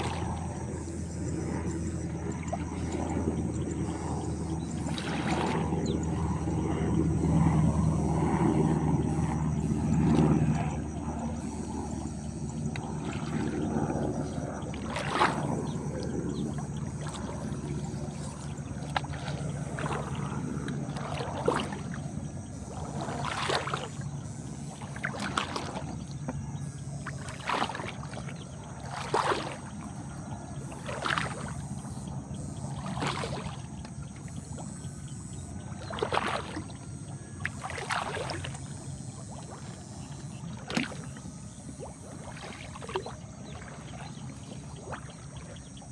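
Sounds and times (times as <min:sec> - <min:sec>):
low steady hum: 0:00.0 - 0:45.9
water splashing in strokes: 0:00.0 - 0:45.9.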